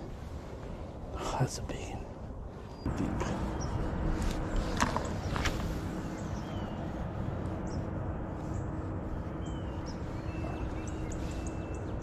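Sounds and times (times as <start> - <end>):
low outdoor rumble: 0.0 - 12.0
small birds chirping: 0.6 - 12.0.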